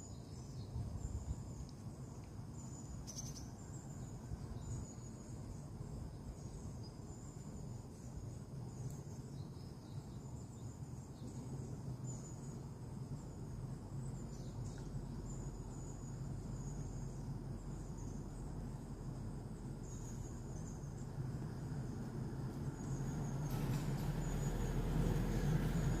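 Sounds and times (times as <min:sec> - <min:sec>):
insects chirping in trills: 0:00.0 - 0:26.0
low steady hum: 0:00.0 - 0:26.0.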